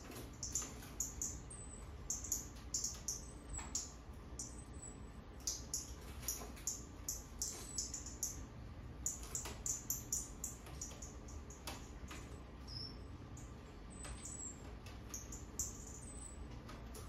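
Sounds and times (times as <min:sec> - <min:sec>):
songbirds chirping over speaker: 0:00.0 - 0:17.0
steady low hum: 0:00.0 - 0:17.0.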